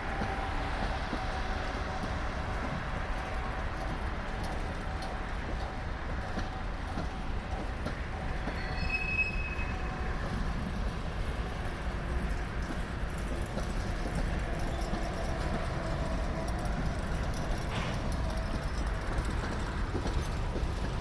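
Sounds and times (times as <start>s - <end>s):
freight train rumbling on rails: 0.0s - 21.0s
train wheel squeal: 0.0s - 21.0s.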